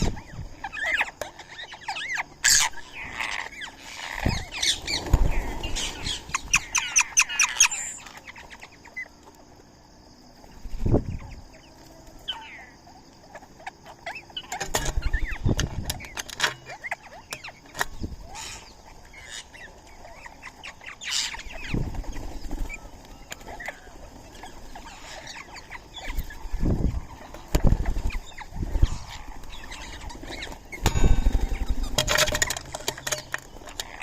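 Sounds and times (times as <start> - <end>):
birds chirping and calling: 0.0 - 9.4, 10.3 - 34.0.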